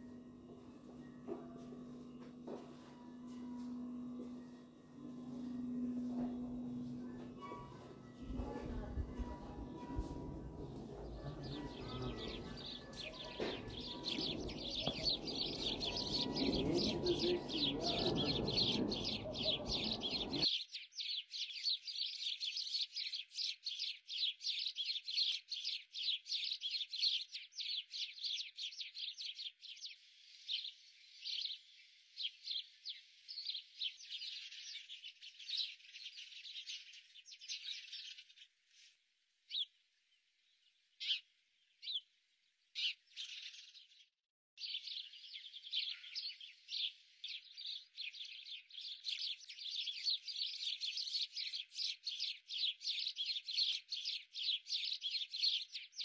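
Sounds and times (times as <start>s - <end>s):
small birds chirping: 6.9s - 56.0s.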